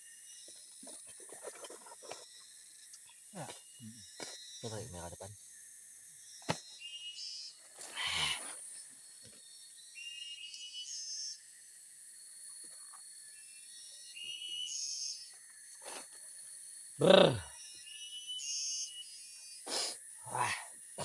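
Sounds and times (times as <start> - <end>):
faint forest hiss: 0.0 - 21.0
insects trilling: 0.0 - 21.0.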